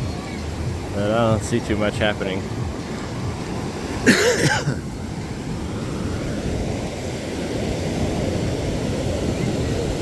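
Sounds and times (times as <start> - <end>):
wind rumbling on microphone: 0.0 - 4.1, 4.8 - 10.0
small surf washing: 0.0 - 10.0.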